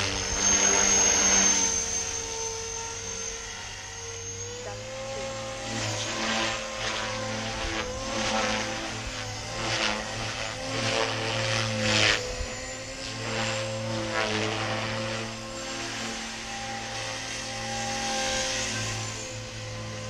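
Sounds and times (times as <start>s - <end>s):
helicopter motor whine: 0.0s - 20.0s
rotor blades whooshing: 0.0s - 20.0s.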